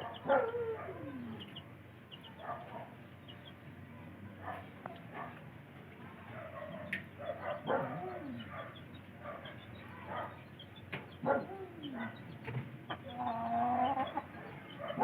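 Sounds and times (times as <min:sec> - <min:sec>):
farmyard animal calls: 0:00.0 - 0:15.0.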